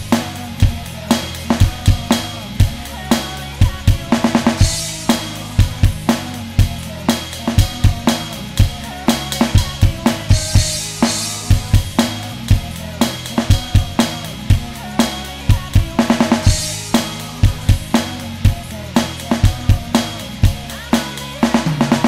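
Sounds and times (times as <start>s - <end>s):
backing music: 0.0s - 22.0s
electronic drum kit rock beat: 0.0s - 22.0s.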